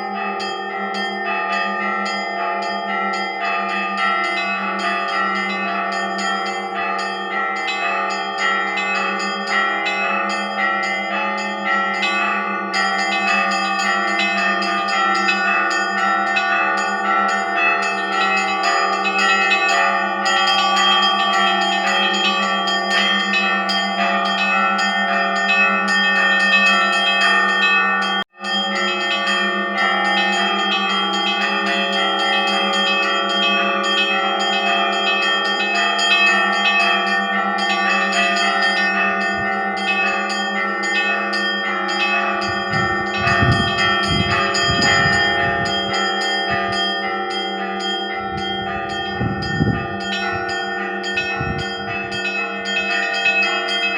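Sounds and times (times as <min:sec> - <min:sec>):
deep church bells ringing: 0:00.0 - 0:53.9
small bells struck rapidly: 0:00.0 - 0:53.9.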